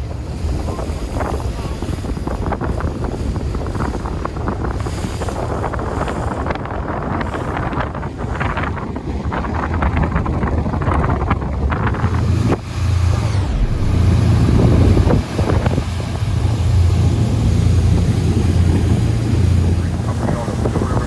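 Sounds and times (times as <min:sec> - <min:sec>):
boat engine drone: 0:00.0 - 0:21.0
wind buffeting microphone: 0:00.0 - 0:21.0.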